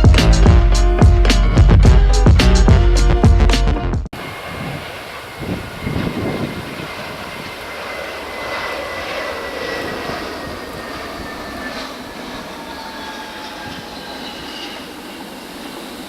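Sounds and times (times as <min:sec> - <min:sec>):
jet engines whining: 0:00.0 - 0:03.5, 0:04.1 - 0:16.0.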